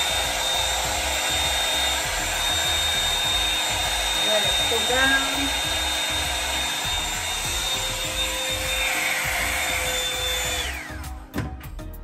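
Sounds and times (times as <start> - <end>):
hot-air brush dryer whining: 0.0 - 11.2
background music with a beat: 0.0 - 12.0.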